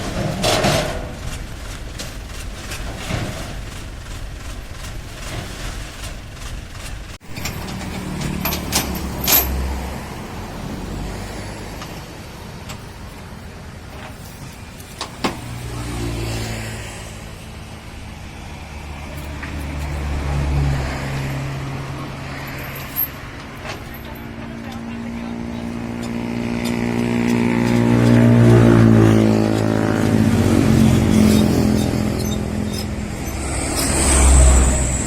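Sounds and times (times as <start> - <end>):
combine harvester engine running: 0.0 - 35.0.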